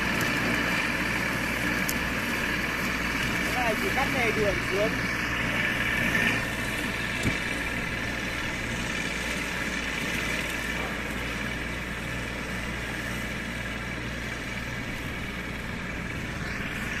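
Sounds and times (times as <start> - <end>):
ride-on mower humming: 0.0 - 17.0.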